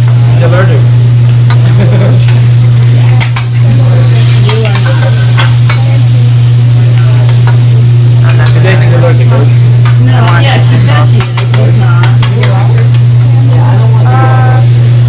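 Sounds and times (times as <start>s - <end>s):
food sizzling on a griddle: 0.0s - 15.0s
loud steady low hum: 0.0s - 15.0s.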